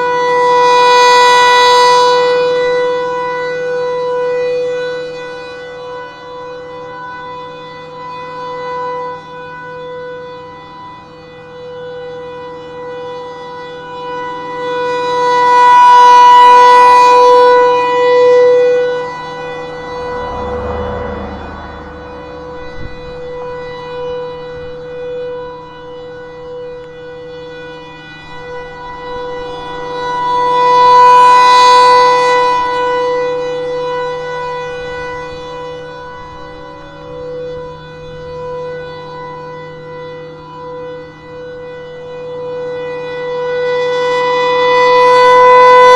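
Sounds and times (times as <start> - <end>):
warning siren steady tone: 0.0 - 45.9.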